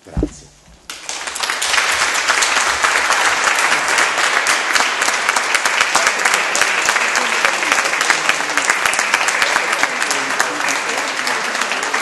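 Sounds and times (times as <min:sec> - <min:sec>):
audience applauding: 0:00.9 - 0:12.0.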